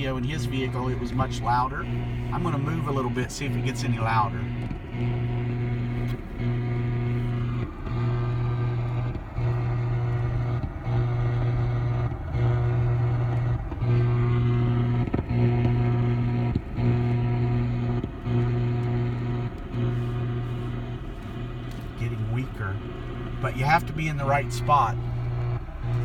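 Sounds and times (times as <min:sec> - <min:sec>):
radio interference buzz: 0:00.0 - 0:26.0.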